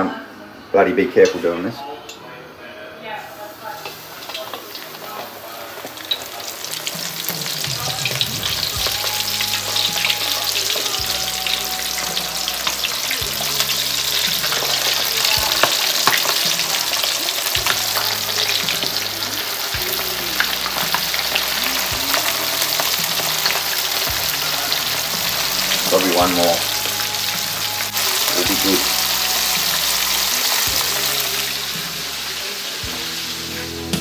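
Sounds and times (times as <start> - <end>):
fish deep-frying in oil: 3.4 - 33.5.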